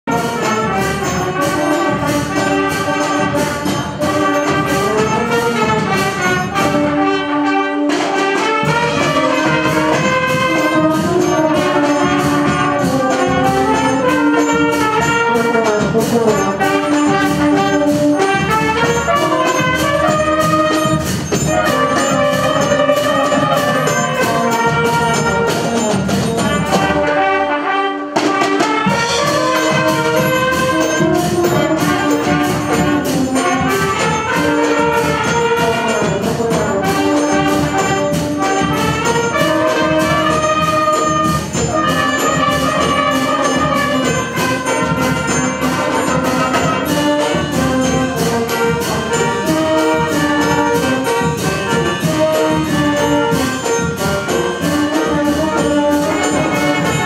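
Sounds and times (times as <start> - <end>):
steady drum beat: 0.0 - 7.4, 8.0 - 57.0
brass band playing a tune: 0.0 - 57.0.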